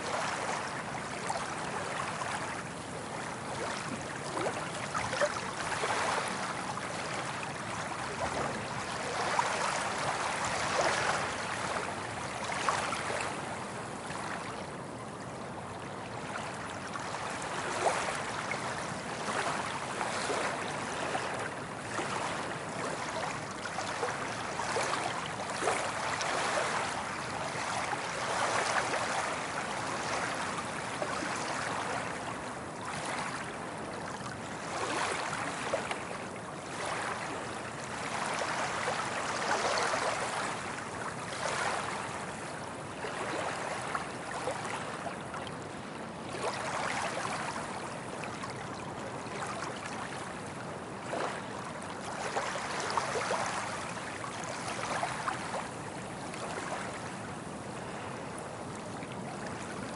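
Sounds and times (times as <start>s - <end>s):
soft ocean waves washing in: 0.0s - 59.9s.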